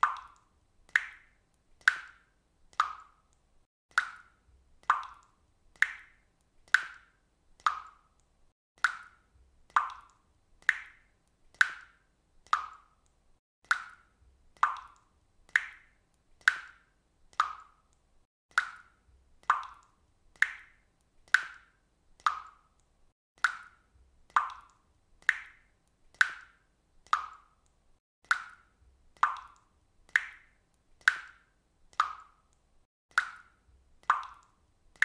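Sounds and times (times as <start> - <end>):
water dripping from a faucet: 0.0 - 35.0.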